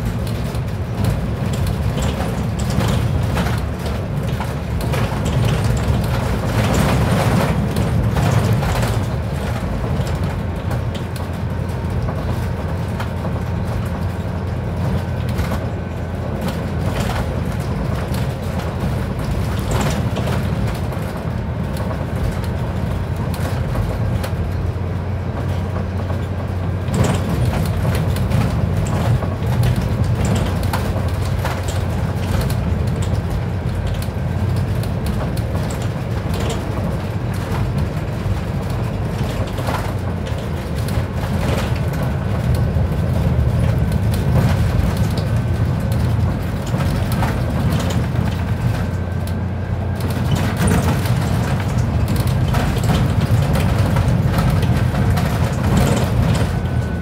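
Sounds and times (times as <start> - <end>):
bus body knocks and rattles: 0.0 - 57.0
bus engine and road drone: 0.0 - 57.0.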